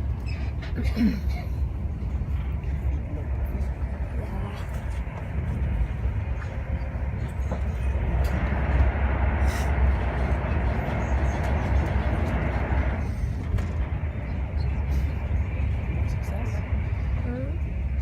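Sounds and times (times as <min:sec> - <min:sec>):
train rumbling inside carriage: 0:00.0 - 0:18.0.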